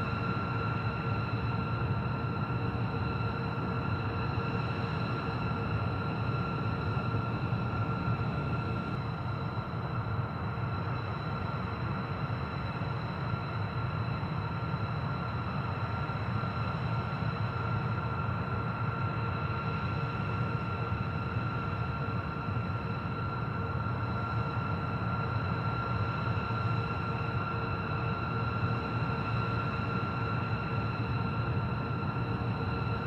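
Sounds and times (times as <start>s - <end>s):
jet engines whining and rumbling: 0.0s - 33.0s.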